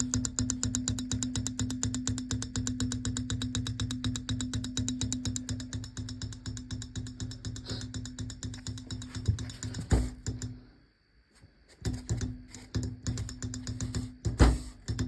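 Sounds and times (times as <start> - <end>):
rapid clicking knock: 0.0 - 10.6, 11.8 - 15.0.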